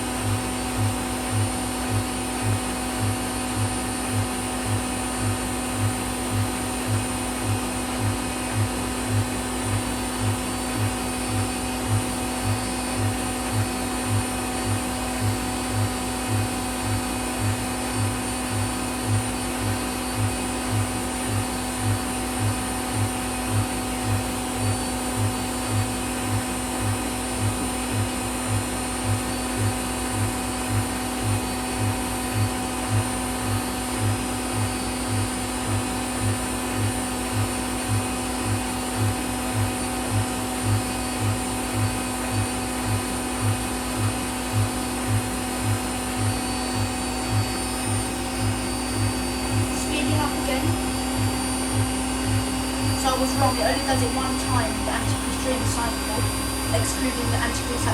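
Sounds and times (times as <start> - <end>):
washing machine motor whine: 0.0 - 57.9.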